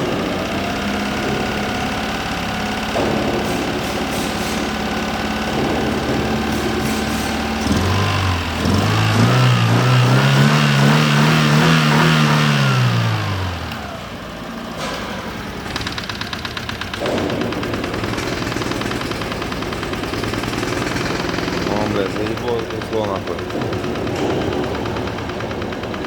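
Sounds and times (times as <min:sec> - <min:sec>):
car engine rough idle: 0:00.0 - 0:26.0
engine rattle: 0:00.0 - 0:26.0.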